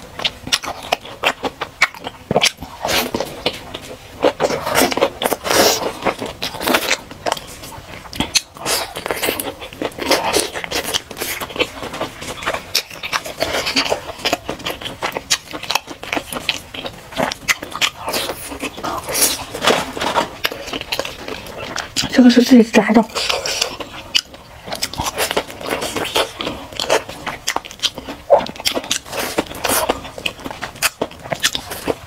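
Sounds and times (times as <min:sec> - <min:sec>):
person biting and chewing hamburger: 0:00.0 - 0:22.1, 0:23.1 - 0:32.0
crackling clicks and wet mouth sounds: 0:00.0 - 0:32.0.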